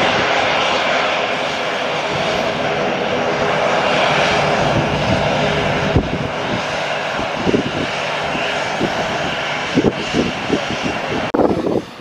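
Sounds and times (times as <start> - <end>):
airplane engines running: 0.0 - 12.0.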